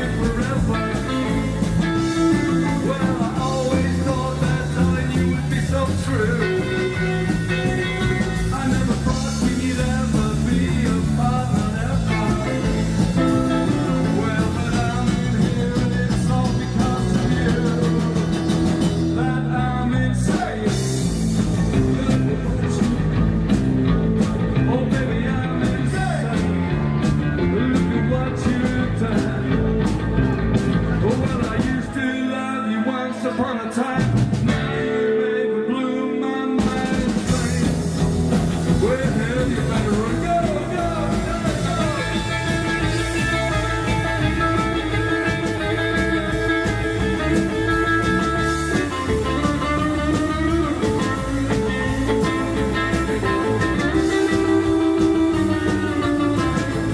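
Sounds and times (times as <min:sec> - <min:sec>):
bass guitar: 0:00.0 - 0:56.9
bending electric guitar lines: 0:00.0 - 0:56.9
drums: 0:00.0 - 0:56.9.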